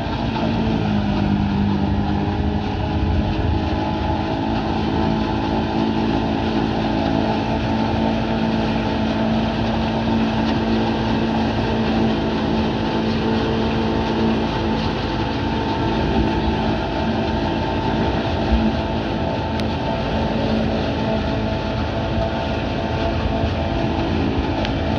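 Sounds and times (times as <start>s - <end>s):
farm machinery engine droning: 0.0s - 24.9s.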